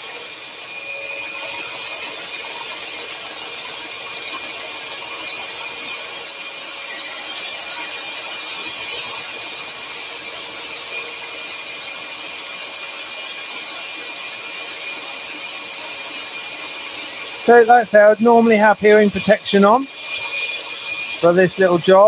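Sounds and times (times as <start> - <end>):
dust extractor running: 0.0 - 22.0
scroll saw cutting wood: 0.0 - 22.0.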